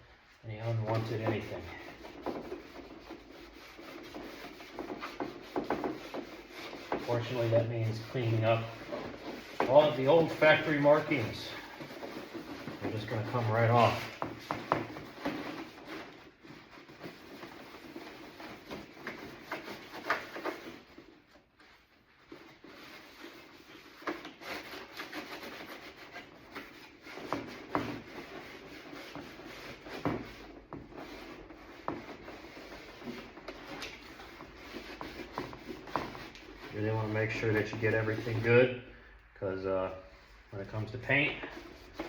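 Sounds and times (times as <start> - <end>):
rag rubbing on door panel: 0.5 - 38.9, 40.1 - 42.0.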